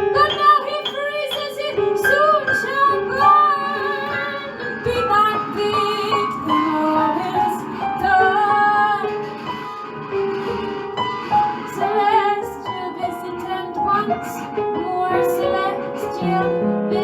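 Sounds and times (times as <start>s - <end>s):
women singing without words: 0.0s - 9.4s, 11.7s - 17.0s.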